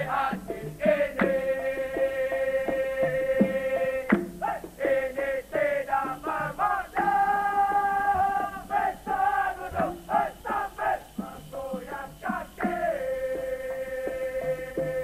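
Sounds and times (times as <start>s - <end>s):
man singing: 0.0s - 15.0s
percussion beats: 0.0s - 15.0s.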